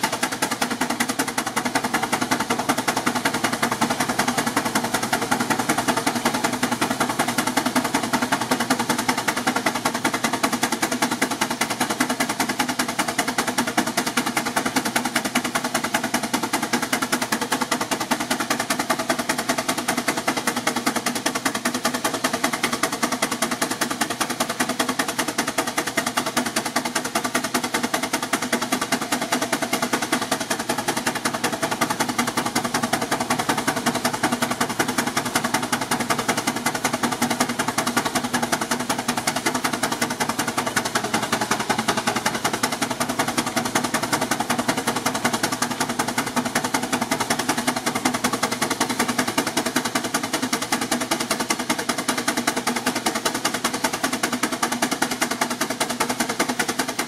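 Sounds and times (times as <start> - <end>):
steam engine exhaust chuffs: 0.0 - 57.0.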